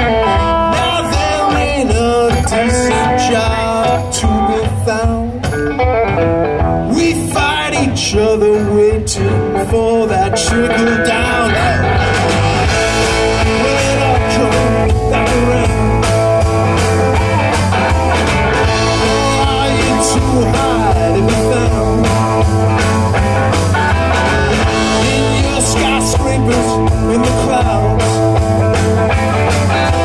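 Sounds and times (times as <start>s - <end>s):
blues-rock band playing: 0.0s - 30.0s.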